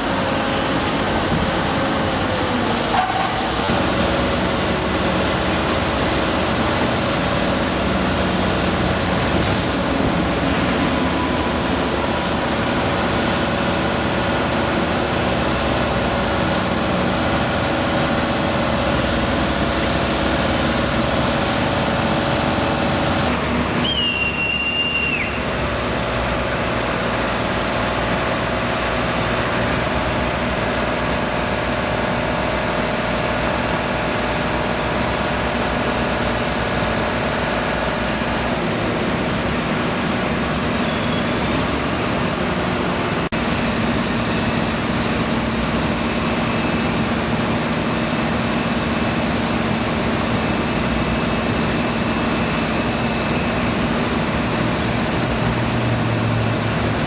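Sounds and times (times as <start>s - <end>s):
engines running: 0.0s - 57.0s.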